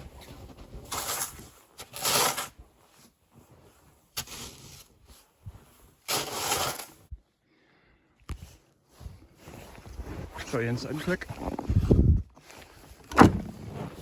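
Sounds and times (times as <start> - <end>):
boots crunching through snow: 0.0 - 6.9, 8.4 - 14.0.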